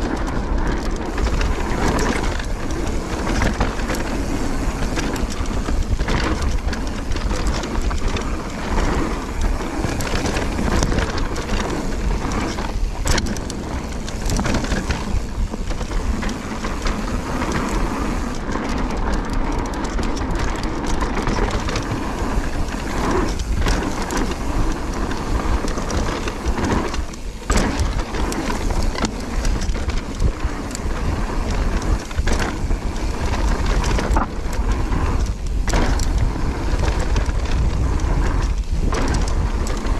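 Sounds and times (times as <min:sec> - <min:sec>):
bike knocking and rattling: 0:00.0 - 0:39.9
bike tyres rumbling on dirt: 0:00.0 - 0:39.9
wind: 0:00.0 - 0:39.9.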